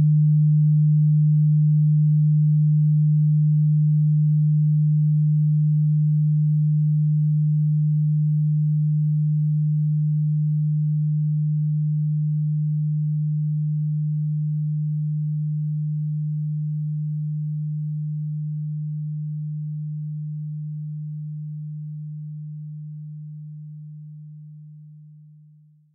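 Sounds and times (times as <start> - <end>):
low sine wave tone: 0.0 - 25.9.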